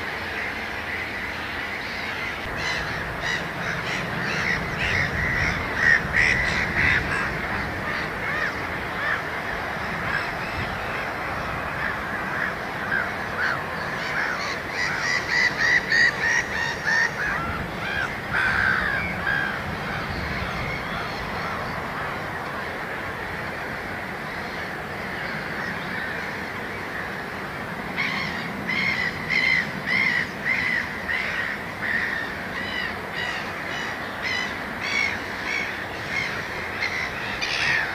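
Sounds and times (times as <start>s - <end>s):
wetland birds calling: 0.0s - 37.9s.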